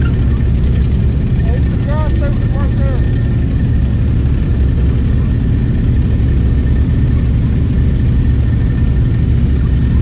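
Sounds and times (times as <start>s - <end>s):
motorcycle engine rumble: 0.0s - 10.0s.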